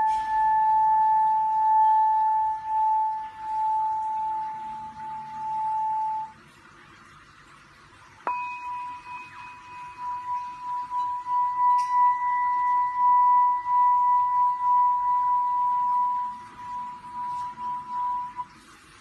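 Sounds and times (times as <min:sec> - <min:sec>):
singing bowl ringing tone: 0:00.0 - 0:06.4, 0:08.2 - 0:18.6.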